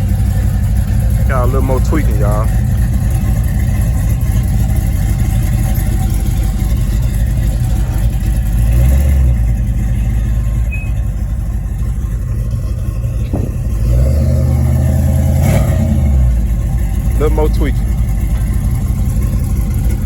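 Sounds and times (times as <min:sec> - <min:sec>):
car engine deep rumble: 0:00.0 - 0:20.0.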